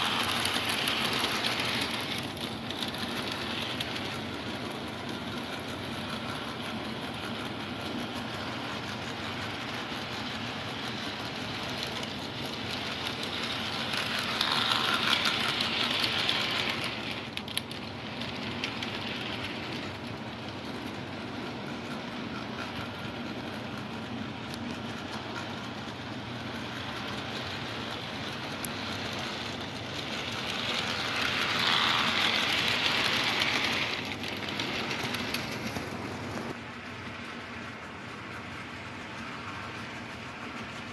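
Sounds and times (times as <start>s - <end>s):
model train motor hum: 0.0s - 40.9s
wheel and rail clatter: 0.0s - 40.9s.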